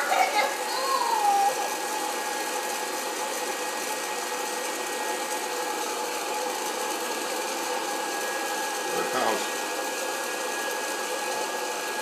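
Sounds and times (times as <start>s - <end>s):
popcorn popper fan whooshing: 0.0s - 12.0s.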